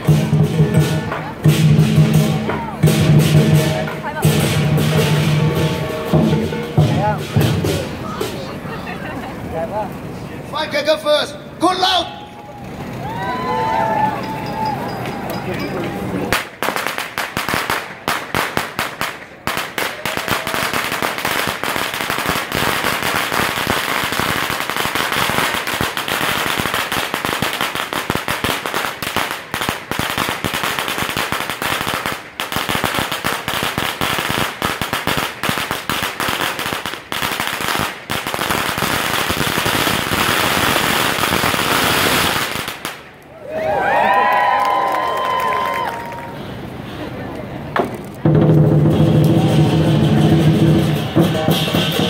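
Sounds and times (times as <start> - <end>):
firecrackers crackling: 0.0 - 52.0.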